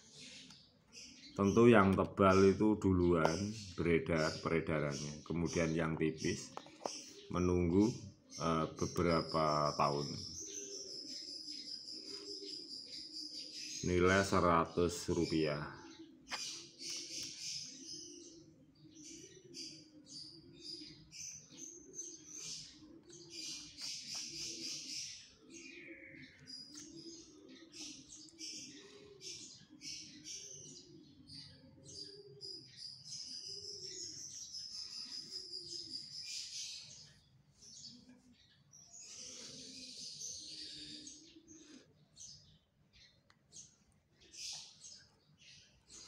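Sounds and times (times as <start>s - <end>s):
small birds chirping rapidly: 0.0s - 46.0s.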